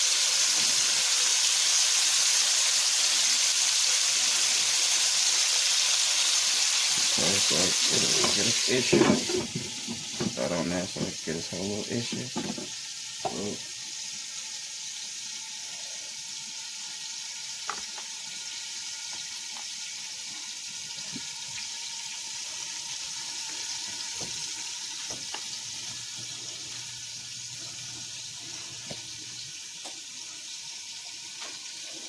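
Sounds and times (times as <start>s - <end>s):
liver sizzling in a frying pan: 0.0s - 32.0s.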